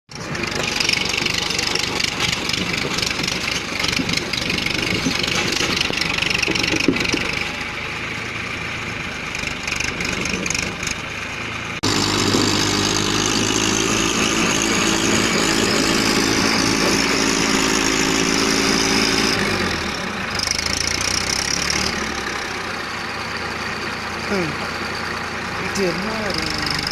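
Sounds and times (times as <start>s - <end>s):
tractor diesel engine running: 0.1s - 26.9s.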